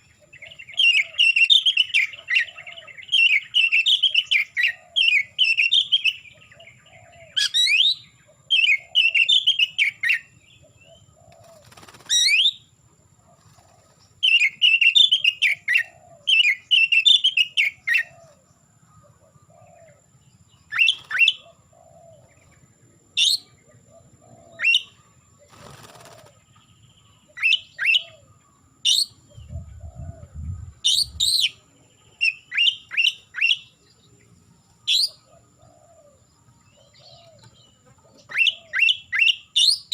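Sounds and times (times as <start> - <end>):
bird singing whistled notes: 0.0 - 12.7, 14.2 - 18.3, 19.0 - 39.9.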